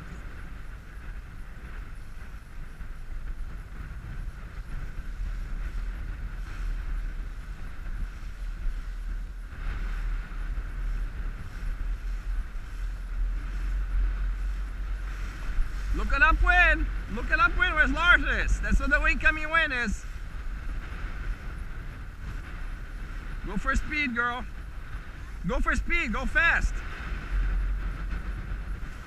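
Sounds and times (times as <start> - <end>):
outboard motor drone: 0.0 - 29.0
water rushing along hull: 0.0 - 29.0
wind buffeting microphone: 0.0 - 29.0.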